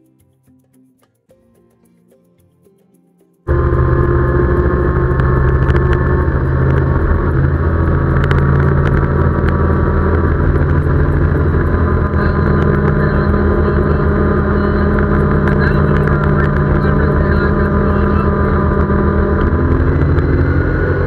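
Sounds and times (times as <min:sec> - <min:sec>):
utility vehicle engine running: 0:03.5 - 0:21.0.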